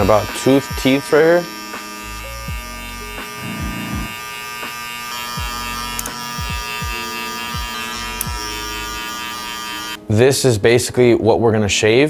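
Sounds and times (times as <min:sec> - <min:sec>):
electric hair clipper buzzing: 0:00.0 - 0:10.1.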